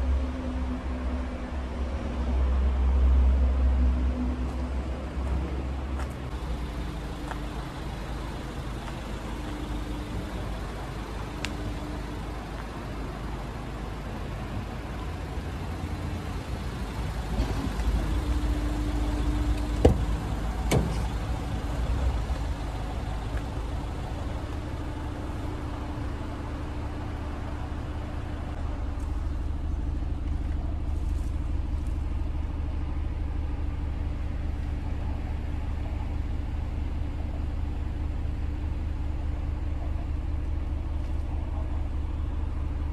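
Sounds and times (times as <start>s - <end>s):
van diesel engine idling: 0.0s - 42.9s.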